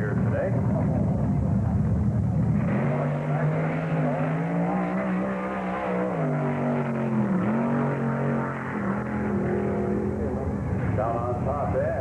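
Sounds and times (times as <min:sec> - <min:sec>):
dragster engine drone: 0:00.0 - 0:12.0.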